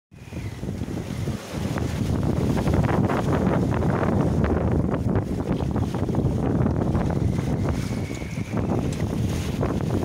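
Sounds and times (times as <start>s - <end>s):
water rushing past hull: 0.1s - 10.0s
wind buffeting microphone: 0.1s - 10.0s.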